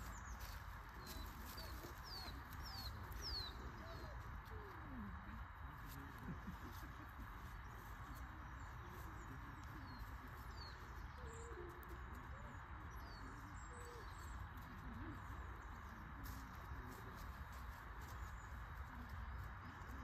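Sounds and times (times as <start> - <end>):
faint bird calls: 0.0 - 20.0.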